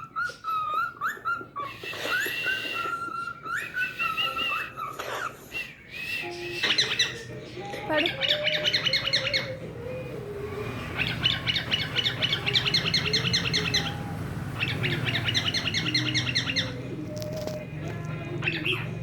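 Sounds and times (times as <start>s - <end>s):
cockatiel chirping: 0.0s - 7.3s, 7.9s - 9.6s, 11.0s - 17.7s, 18.4s - 19.0s.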